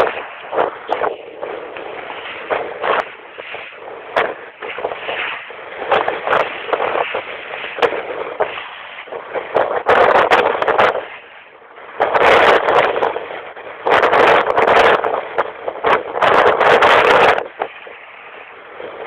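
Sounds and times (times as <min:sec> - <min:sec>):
wind gusting on microphone: 0:00.0 - 0:19.0.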